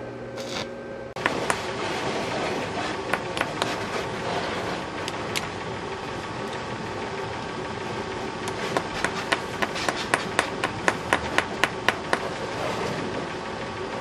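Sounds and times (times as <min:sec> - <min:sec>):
electric hum: 0:00.0 - 0:14.0.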